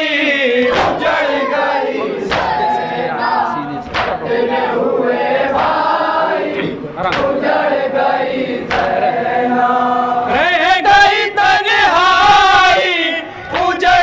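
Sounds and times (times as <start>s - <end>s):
men chanting in chorus: 0.0s - 14.0s.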